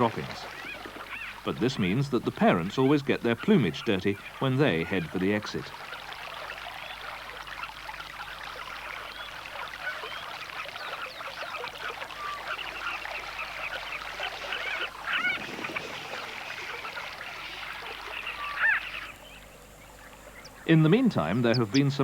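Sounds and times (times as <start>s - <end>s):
bird calls and chirps: 0.0s - 22.0s
water trickling: 0.0s - 22.0s.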